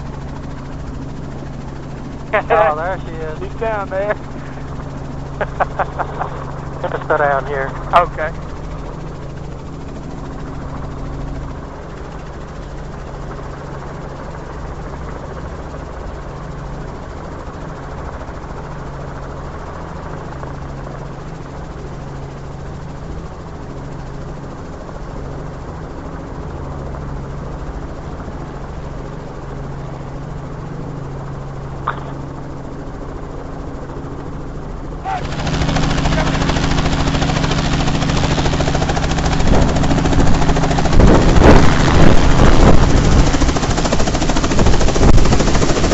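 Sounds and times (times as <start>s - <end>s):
helicopter engine and rotors hum: 0.0s - 45.9s.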